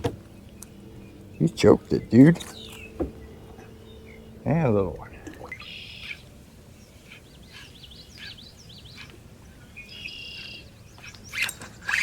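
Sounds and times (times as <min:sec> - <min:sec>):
songbirds chirping: 0:00.0 - 0:12.0
buzzy bird trill: 0:00.2 - 0:12.0.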